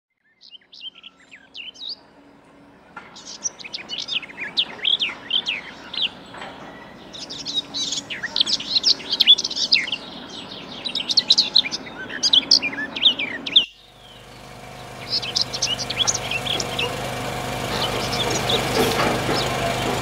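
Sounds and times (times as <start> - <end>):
songbirds chirping: 0.2 - 20.0.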